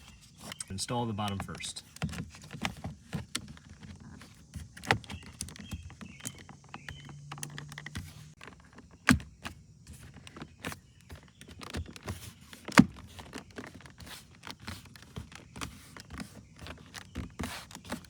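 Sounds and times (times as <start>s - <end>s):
sharp plastic clicks and knocks: 0.0s - 18.0s.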